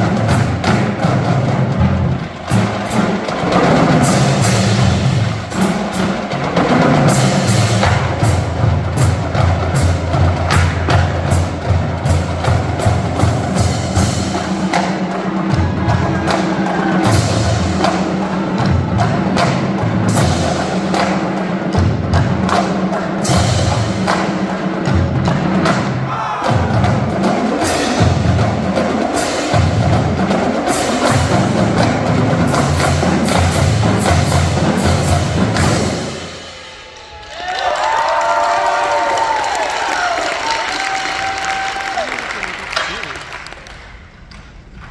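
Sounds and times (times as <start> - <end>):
snare and tenor drum strikes: 0.0 - 36.9
pitched bass drum notes: 0.0 - 37.0.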